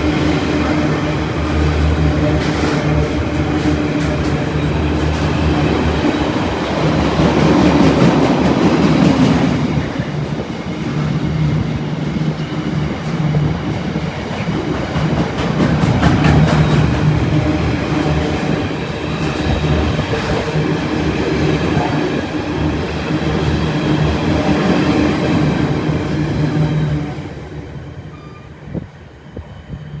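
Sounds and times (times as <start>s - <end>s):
wheels rumbling on rails: 0.0s - 27.5s
train engine low hum: 0.0s - 30.0s.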